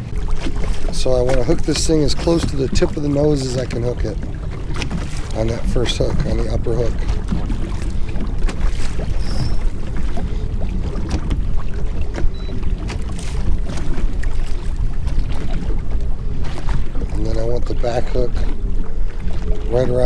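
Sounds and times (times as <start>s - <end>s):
water moving along boat: 0.0s - 20.0s
wind on microphone: 0.0s - 20.0s.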